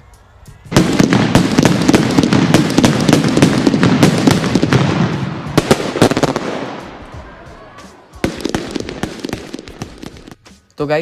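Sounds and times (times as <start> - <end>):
fireworks crackling and banging: 0.6 - 11.0.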